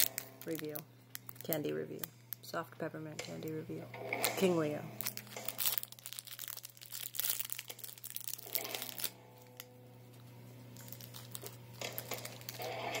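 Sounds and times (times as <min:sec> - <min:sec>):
plastic candy wrapper crinkling: 0:00.0 - 0:02.7, 0:04.0 - 0:13.0.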